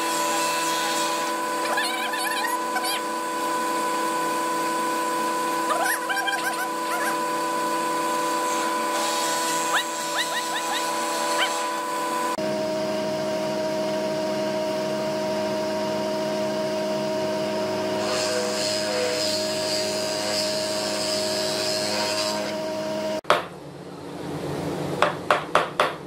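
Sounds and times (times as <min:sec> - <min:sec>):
boring machine motor hum and whine: 0:00.0 - 0:25.0.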